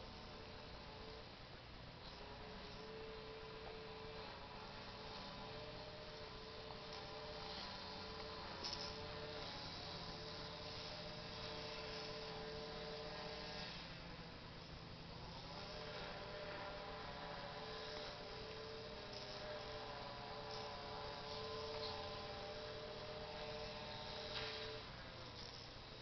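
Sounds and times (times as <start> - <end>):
multi-tone hum: 0.0 - 26.0.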